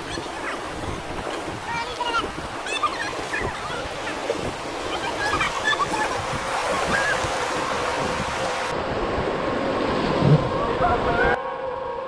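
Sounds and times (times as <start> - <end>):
river water rushing around raft: 0.0 - 12.0.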